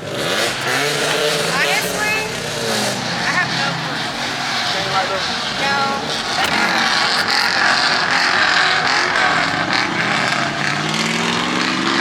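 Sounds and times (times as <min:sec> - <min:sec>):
car engine revving: 0:00.0 - 0:12.0
steady loud noise: 0:00.0 - 0:12.0.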